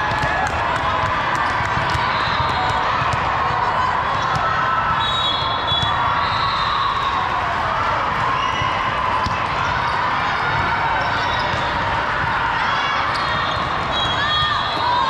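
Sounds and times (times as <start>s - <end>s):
murmur of spectators: 0.0s - 15.0s.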